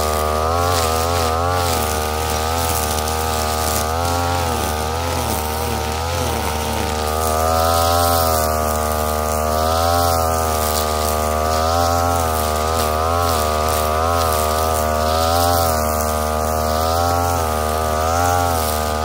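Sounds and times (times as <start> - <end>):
brushcutter engine at high revs: 0.0 - 19.0
trimmer line cutting grass: 0.0 - 19.0.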